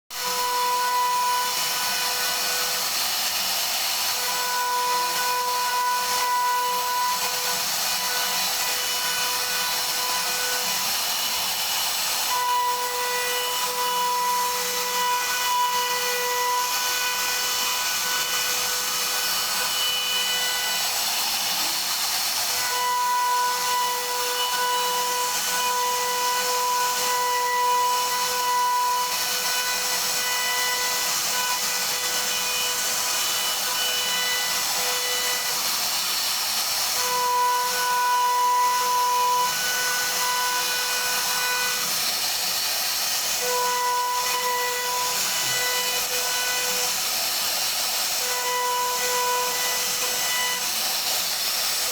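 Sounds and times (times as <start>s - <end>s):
router spindle whining: 0.1s - 51.9s
bit cutting wood hiss: 0.2s - 51.9s.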